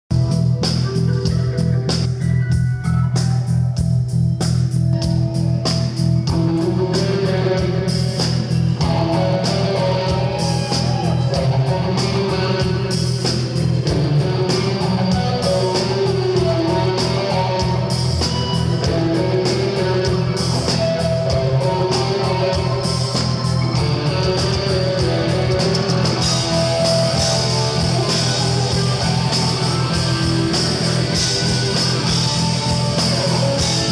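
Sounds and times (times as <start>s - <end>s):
electric guitar lead lines: 0.1s - 33.9s
live rock band: 0.1s - 33.9s.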